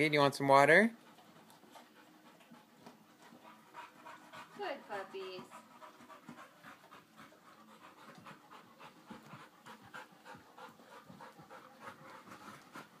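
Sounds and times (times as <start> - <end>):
dog panting: 0.7 - 13.0.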